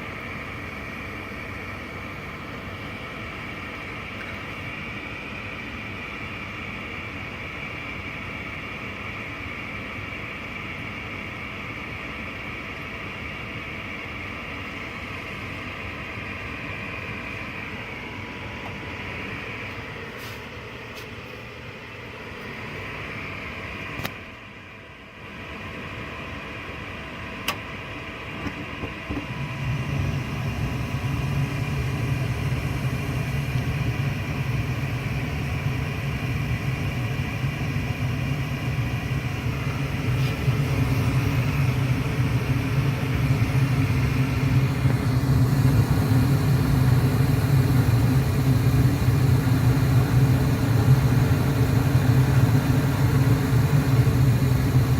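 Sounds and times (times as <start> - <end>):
furnace inducer fan whirring: 0.0 - 54.9
low burner flame rumble: 0.0 - 54.9.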